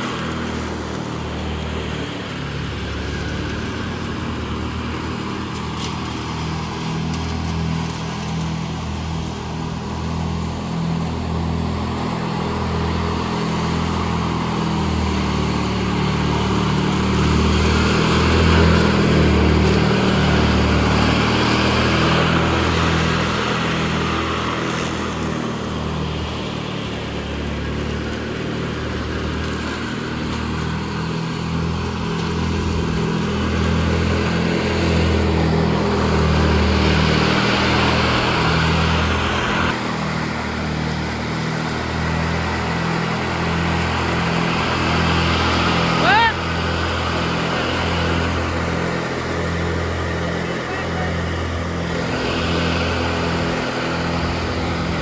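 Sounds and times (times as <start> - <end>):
riding lawn mower engine: 0.0 - 55.0.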